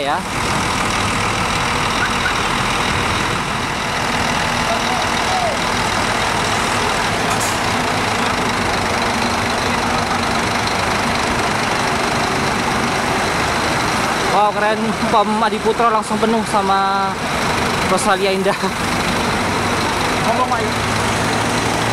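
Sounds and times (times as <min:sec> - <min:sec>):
diesel bus engines running: 0:00.0 - 0:21.9.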